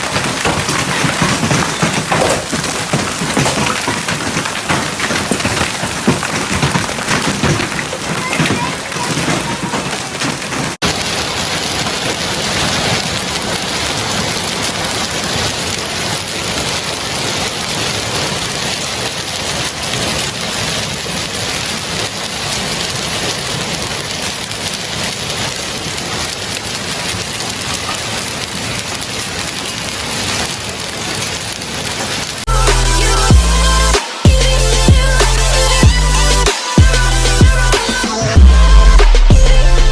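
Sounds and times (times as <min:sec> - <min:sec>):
hail pelting down: 0:00.0 - 0:39.9.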